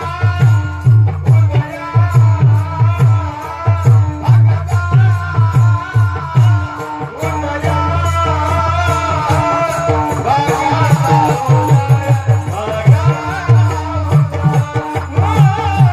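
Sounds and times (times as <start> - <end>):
hand drum beat: 0.0 - 15.9
jingling percussion: 0.0 - 15.9
wavering devotional melody: 0.0 - 15.9.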